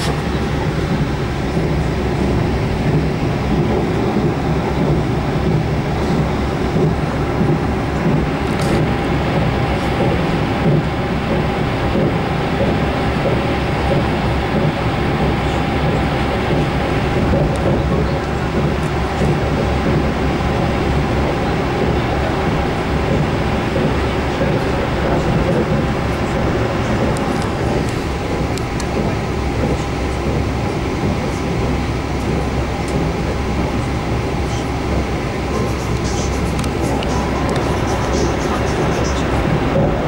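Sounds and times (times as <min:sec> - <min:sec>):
train running rumble: 0:00.0 - 0:40.0.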